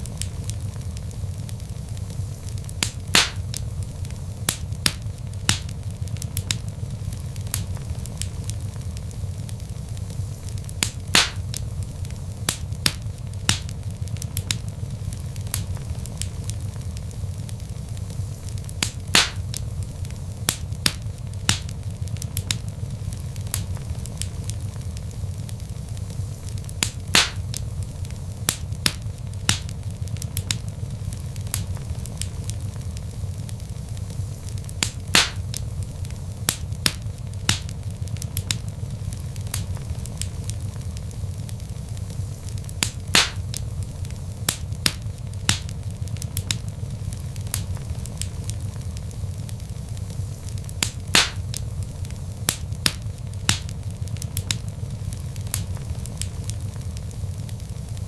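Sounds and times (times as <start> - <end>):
fire flames rumbling: 0.0 - 58.0
logs crackling and popping: 0.0 - 58.0.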